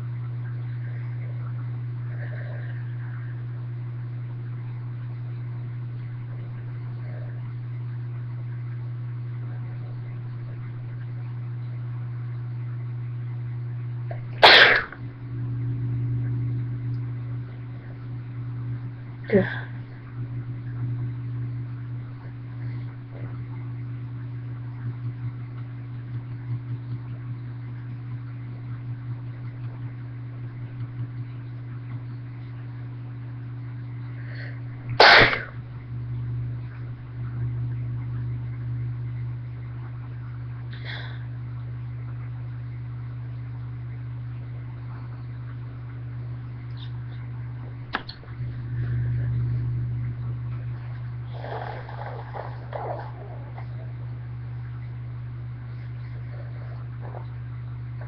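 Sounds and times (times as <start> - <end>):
low fluttering motor hum: 0.0 - 58.0.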